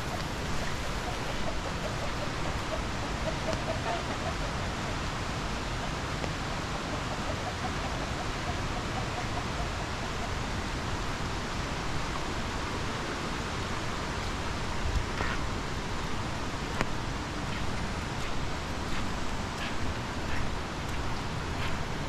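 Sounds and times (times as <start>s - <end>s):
falling water rushing: 0.0s - 22.0s.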